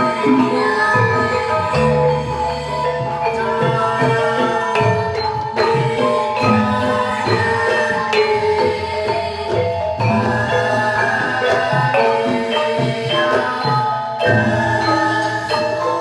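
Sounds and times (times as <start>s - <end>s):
gamelan metallophones ringing: 0.0s - 16.0s
hand drums: 0.0s - 16.0s.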